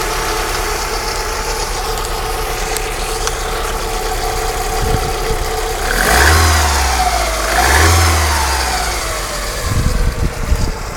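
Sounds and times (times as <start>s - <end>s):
car engine idling and revving: 0.0s - 10.9s.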